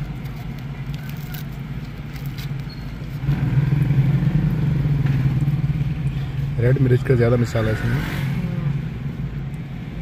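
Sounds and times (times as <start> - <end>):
car engine hum: 0.0 - 10.0.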